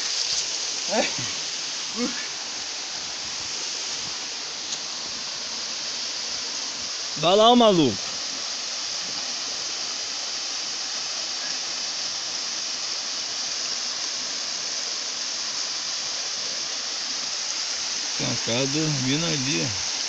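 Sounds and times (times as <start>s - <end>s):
waterfall rushing over rock: 0.0s - 20.0s.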